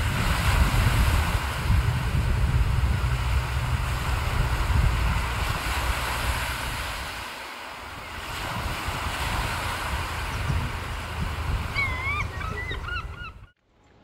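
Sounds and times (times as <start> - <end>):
surf breaking on beach: 0.0 - 12.4
wind buffeting microphone: 0.0 - 13.5.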